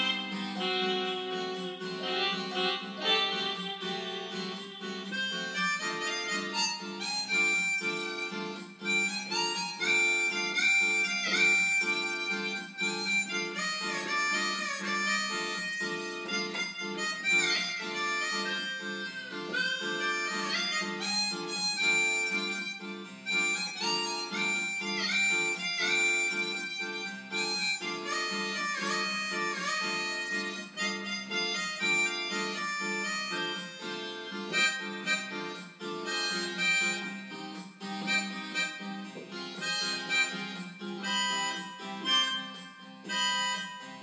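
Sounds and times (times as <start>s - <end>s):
electronic keyboard melody: 0.0s - 44.0s.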